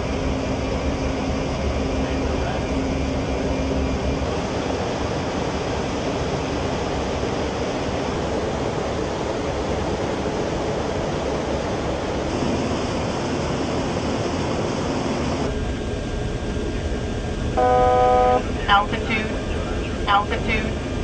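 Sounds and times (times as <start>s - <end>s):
aircraft engine and airflow noise: 0.0s - 21.0s.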